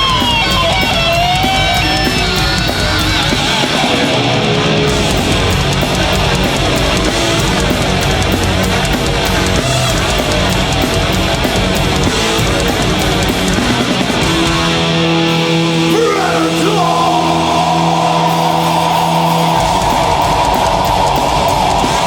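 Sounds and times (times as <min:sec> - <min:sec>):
drums: 0:00.0 - 0:22.0
heavy metal band playing: 0:00.0 - 0:22.0.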